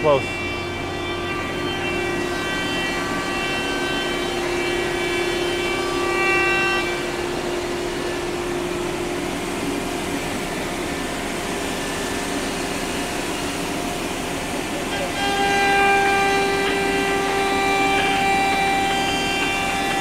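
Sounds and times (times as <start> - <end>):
woodworking machinery humming: 0.0 - 20.0.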